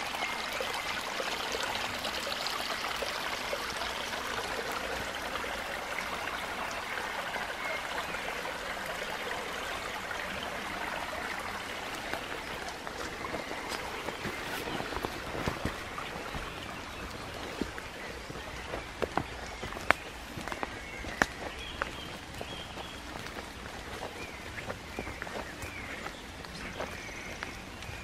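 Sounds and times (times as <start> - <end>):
light rain falling on water: 0.0 - 28.0
stream babbling over stones: 0.0 - 28.0.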